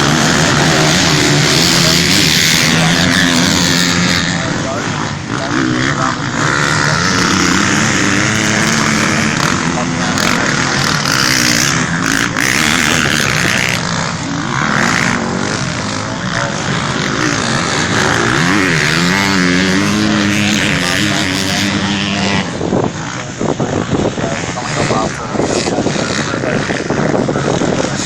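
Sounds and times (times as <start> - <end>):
motocross bikes revving past: 0.0 - 28.0.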